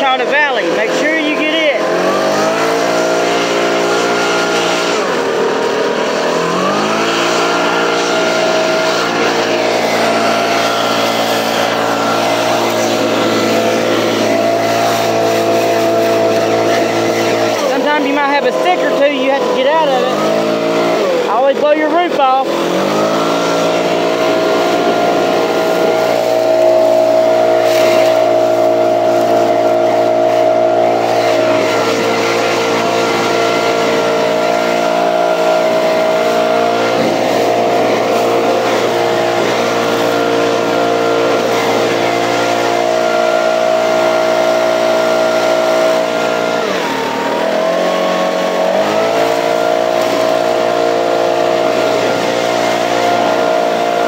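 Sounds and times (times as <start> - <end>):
leaf blower engine running: 0.0 - 54.0.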